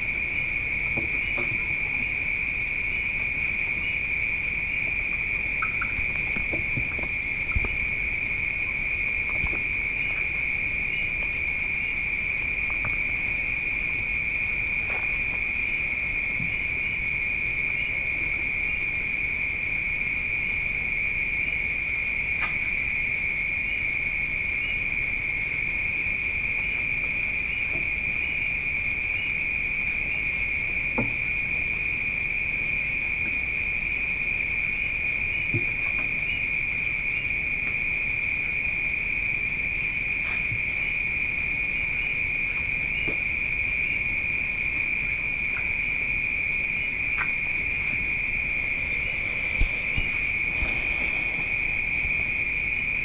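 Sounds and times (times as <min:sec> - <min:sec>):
night insects trilling: 0:00.0 - 0:53.0.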